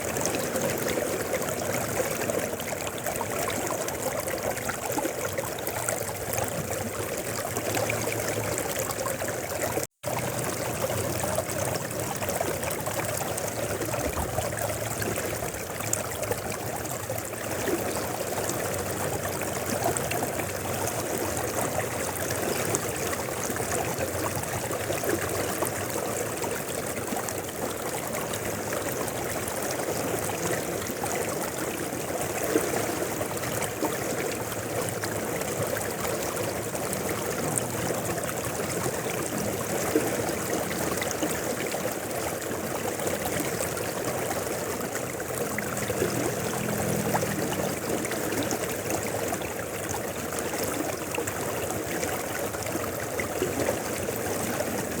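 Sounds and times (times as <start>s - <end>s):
river water rushing: 7.0s - 55.0s.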